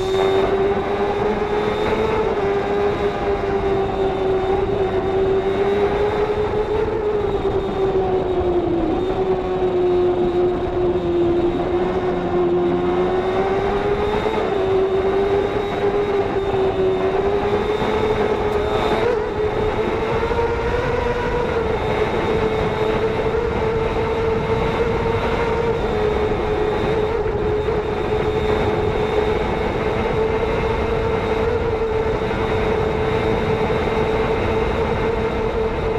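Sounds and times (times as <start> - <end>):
motorcycle engine at high revs: 0.0 - 6.8, 10.2 - 33.4.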